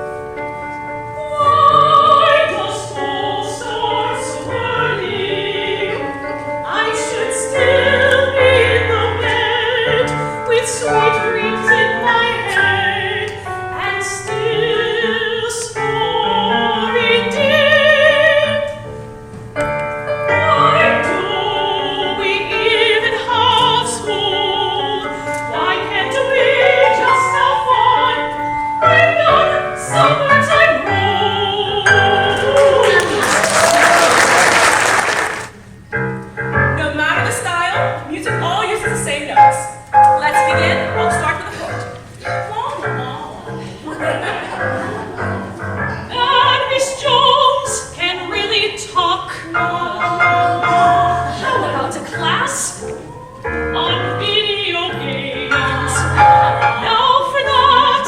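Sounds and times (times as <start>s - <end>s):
opera singers singing with vibrato: 0.9s - 19.1s, 20.1s - 35.5s, 36.8s - 58.0s.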